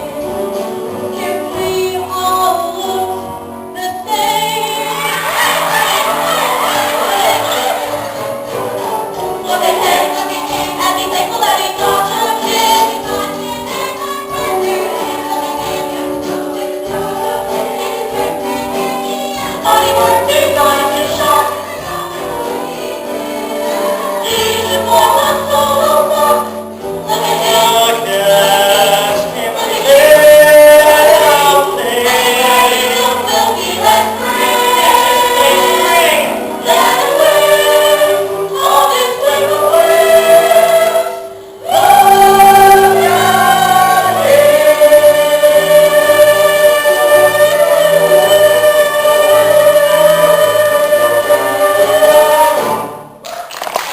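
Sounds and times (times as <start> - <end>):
musical accompaniment: 0.0 - 53.9
cast singing together: 3.9 - 53.2.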